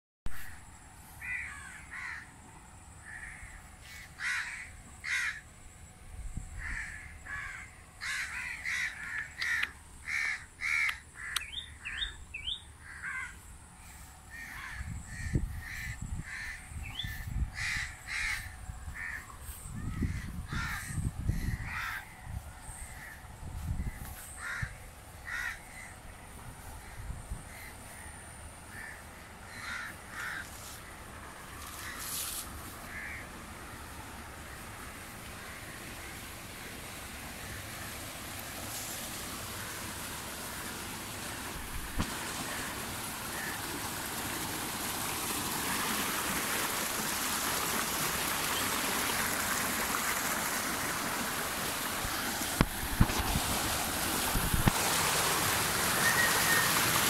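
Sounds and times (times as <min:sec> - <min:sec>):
birds calling: 0:00.3 - 0:46.0, 0:47.6 - 0:57.0.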